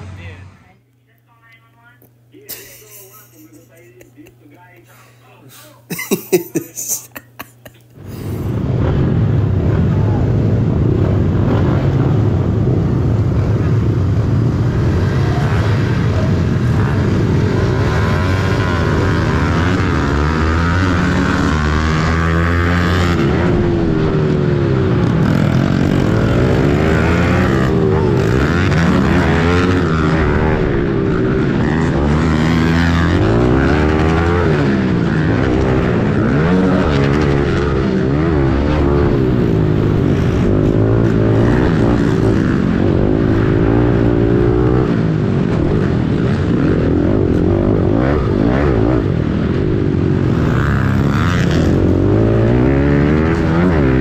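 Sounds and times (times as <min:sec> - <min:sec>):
pit bike engines revving: 0:05.9 - 0:54.0.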